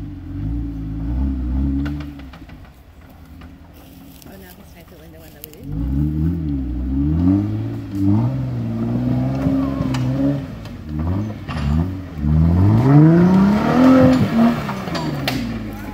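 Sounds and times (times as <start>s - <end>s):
car engine revving under load: 0.0s - 4.9s, 5.5s - 15.9s.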